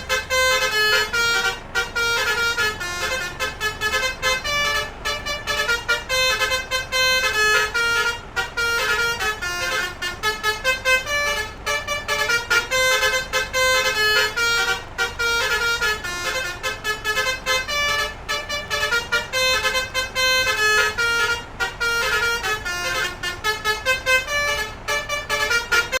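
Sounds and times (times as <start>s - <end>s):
bus multi-trumpet horn tune: 0.0s - 26.0s.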